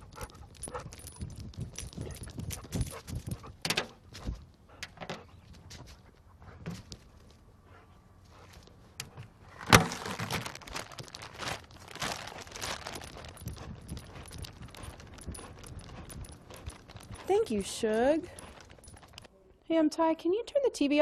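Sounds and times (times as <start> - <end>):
rustling and clatter: 0.0 - 7.4, 8.3 - 19.3.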